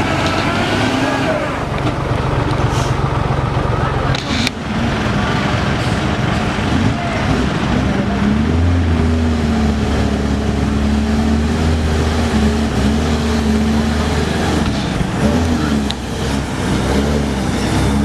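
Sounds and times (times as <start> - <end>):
truck engine running under load: 0.0 - 18.0.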